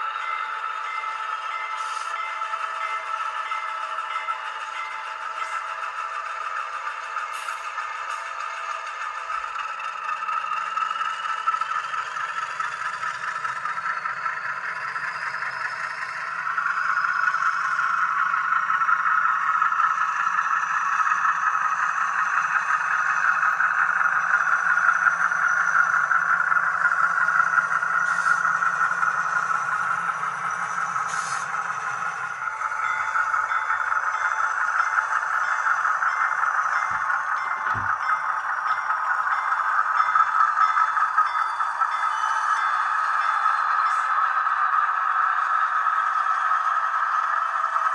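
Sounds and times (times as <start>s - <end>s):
model train running on track: 0.0s - 47.9s.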